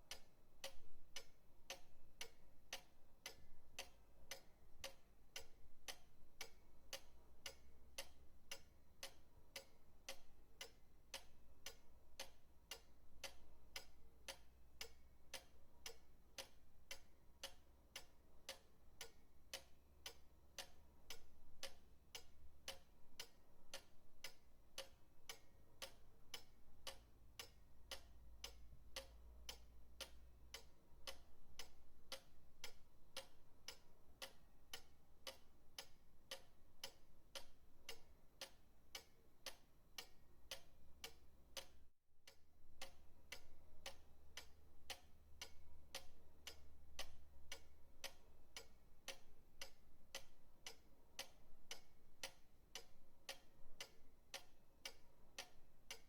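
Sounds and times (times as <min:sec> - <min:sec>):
pendulum clock ticking: 0:00.0 - 0:56.0.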